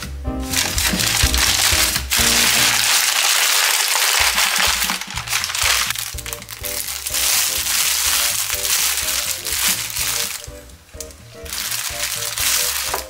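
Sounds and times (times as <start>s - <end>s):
background music: 0.0s - 3.2s, 4.2s - 13.0s
paper bag crumpling: 0.5s - 10.6s, 11.4s - 13.0s
plastic bag crackling: 0.5s - 13.0s.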